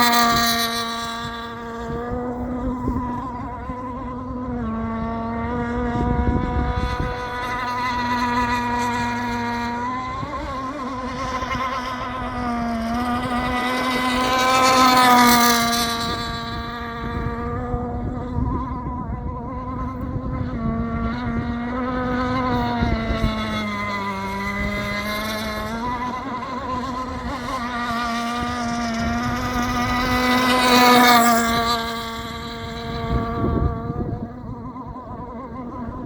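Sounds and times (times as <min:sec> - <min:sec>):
model boat engine whining: 0:00.0 - 0:36.0.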